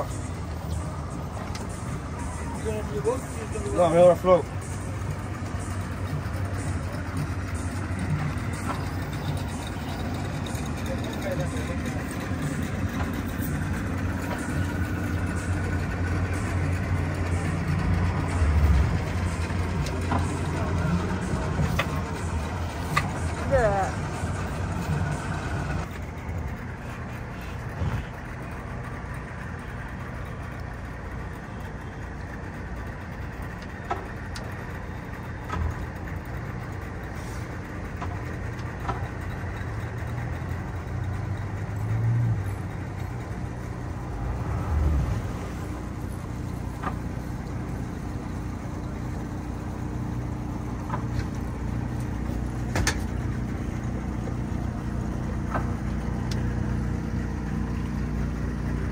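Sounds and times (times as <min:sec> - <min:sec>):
boat engine idling: 0:00.0 - 0:58.9.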